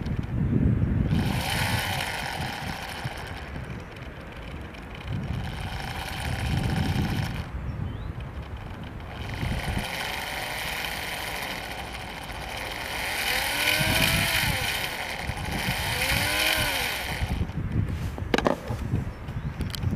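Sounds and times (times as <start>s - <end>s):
wind noise on microphone: 0.0s - 19.9s
small electric motor whining: 1.0s - 19.0s.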